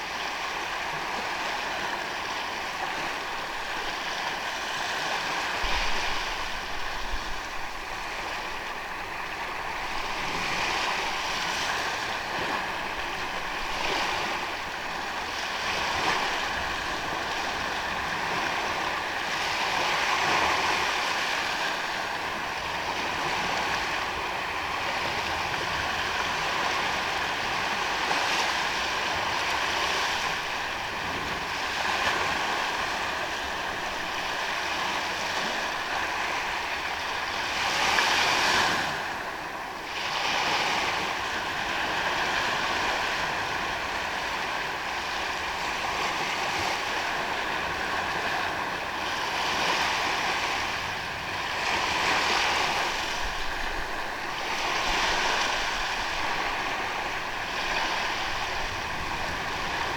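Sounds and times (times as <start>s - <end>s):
small waves washing onto sand: 0.0s - 59.9s.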